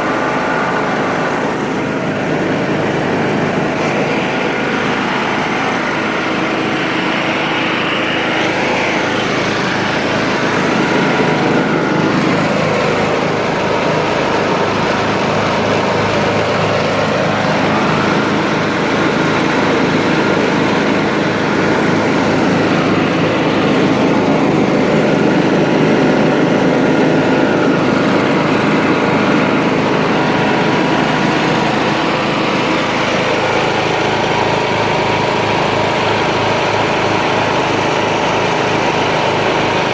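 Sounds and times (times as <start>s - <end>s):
riding lawn mower engine running: 0.0s - 39.9s.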